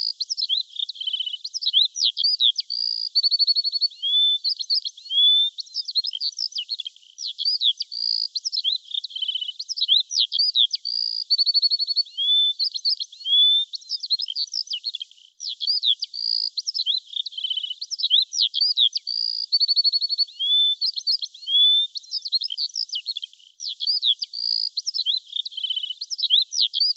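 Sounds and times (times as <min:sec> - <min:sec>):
birds singing: 0:00.0 - 0:26.9.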